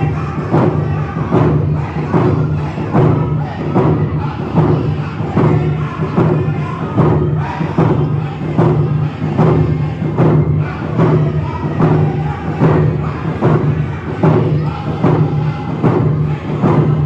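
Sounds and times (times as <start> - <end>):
hand drums beating: 0.0 - 17.0
men singing together: 0.0 - 17.0.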